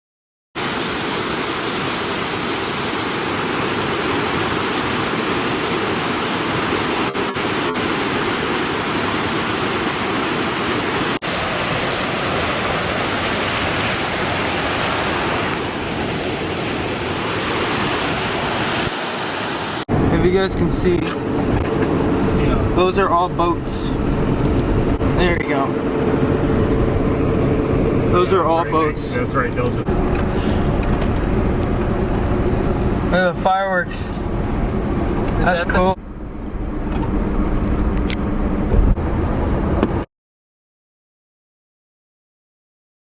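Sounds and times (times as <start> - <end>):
car road and wind noise: 0.6 - 40.1.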